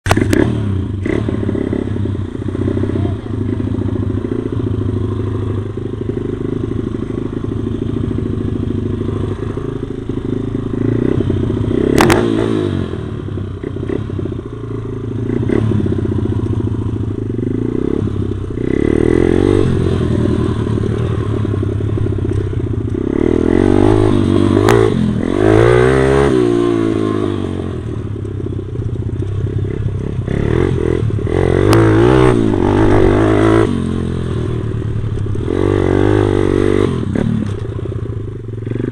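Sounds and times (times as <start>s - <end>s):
pit bike engine revving: 0.1s - 38.9s.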